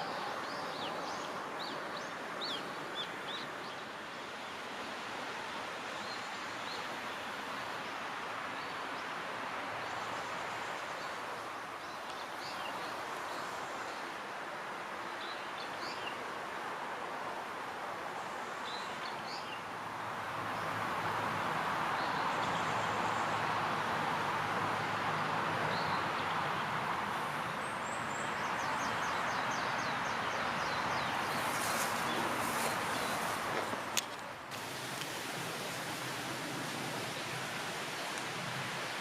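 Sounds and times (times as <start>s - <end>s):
steady rushing outdoor noise: 0.0s - 39.0s.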